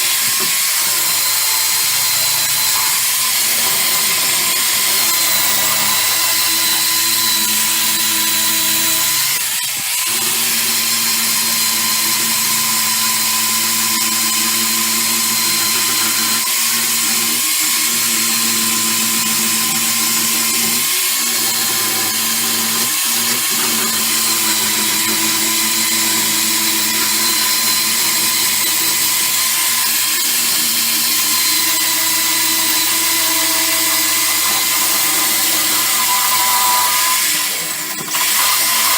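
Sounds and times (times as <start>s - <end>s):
power tool wire brush on steel: 0.0s - 38.9s.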